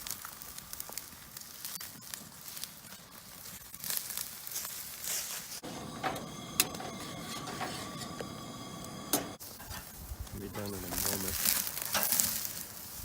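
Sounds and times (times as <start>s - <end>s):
campfire crackling: 0.0s - 13.0s
steak sizzling over fire: 0.0s - 13.0s.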